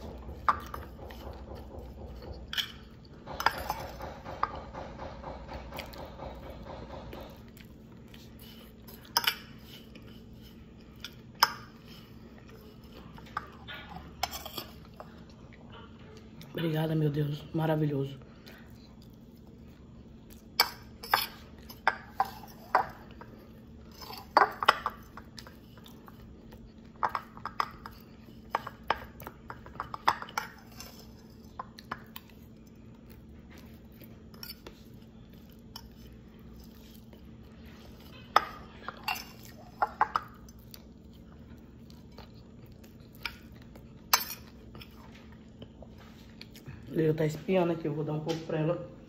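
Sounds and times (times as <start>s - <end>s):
close-up chewing: 5.7s - 16.6s, 18.2s - 46.9s.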